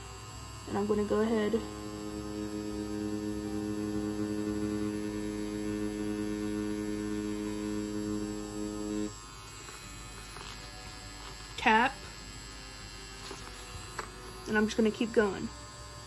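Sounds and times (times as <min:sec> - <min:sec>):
tattoo machine humming: 0:00.0 - 0:16.0.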